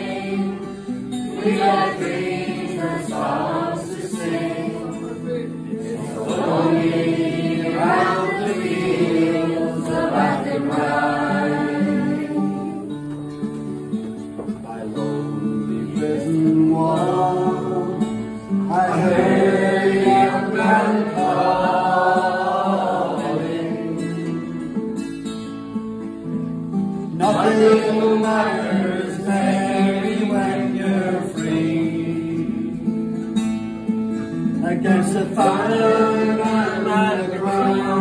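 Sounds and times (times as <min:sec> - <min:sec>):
voices singing a ballad: 0:00.0 - 0:13.2, 0:14.5 - 0:25.0, 0:27.1 - 0:33.4, 0:34.6 - 0:38.0
strummed acoustic guitars: 0:00.0 - 0:38.0.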